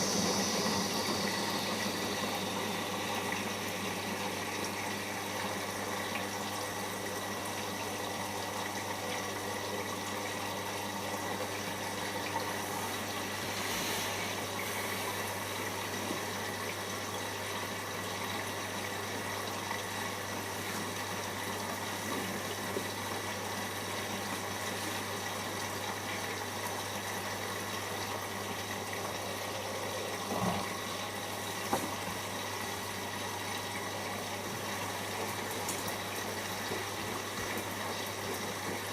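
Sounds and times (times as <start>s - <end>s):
water rushing into washing machine: 0.0s - 38.9s.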